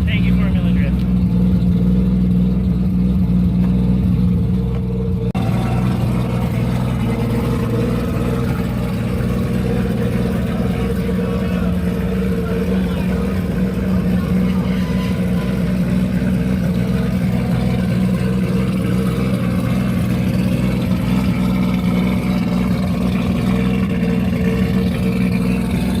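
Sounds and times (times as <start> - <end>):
car engine running steadily: 0.0 - 26.0.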